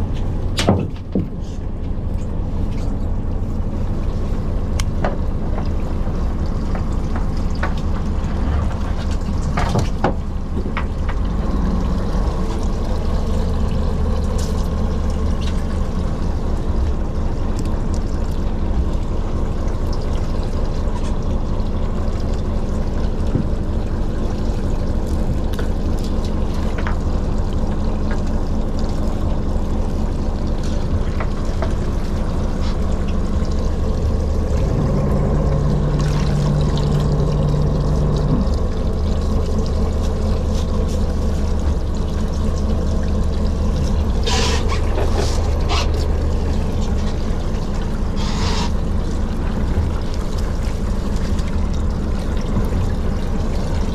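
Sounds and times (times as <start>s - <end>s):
boat engine humming: 0.0s - 53.9s
water splashing: 2.1s - 53.9s.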